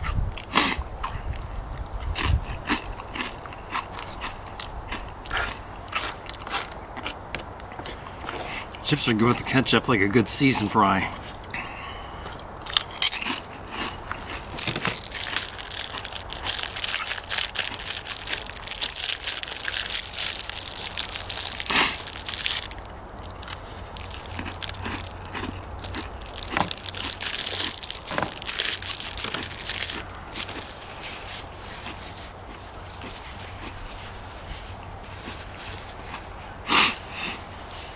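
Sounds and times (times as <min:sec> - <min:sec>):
person chewing crunchy chips: 0:00.0 - 0:08.8, 0:11.2 - 0:34.4.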